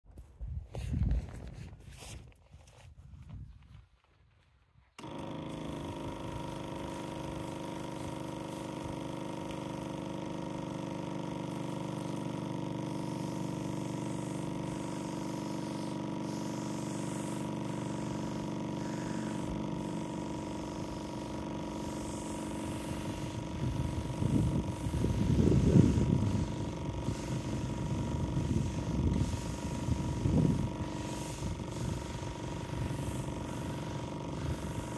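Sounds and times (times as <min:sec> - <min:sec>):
pressure washer motor running: 0:05.0 - 0:34.9.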